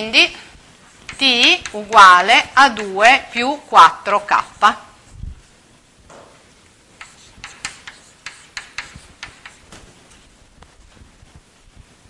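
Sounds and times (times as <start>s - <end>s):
chalk tapping and scratching: 0.0s - 4.9s, 6.9s - 11.9s.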